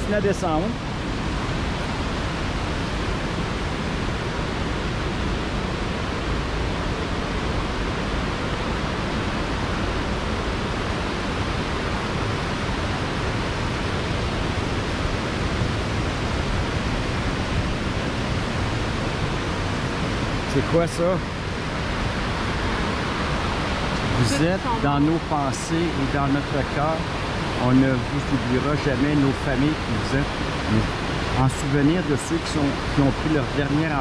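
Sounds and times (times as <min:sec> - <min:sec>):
rushing water of waterfall: 0:00.0 - 0:34.0.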